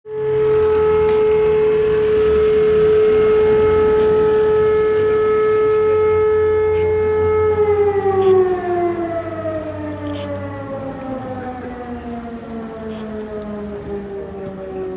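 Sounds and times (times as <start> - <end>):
fire siren winding down: 0.1 - 14.9.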